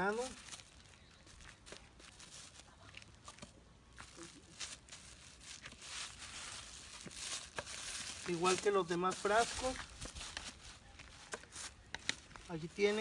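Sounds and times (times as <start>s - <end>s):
plastic bag crinkling: 0.0s - 3.2s, 4.0s - 13.0s
sticks scraping in sandy soil: 0.0s - 13.0s.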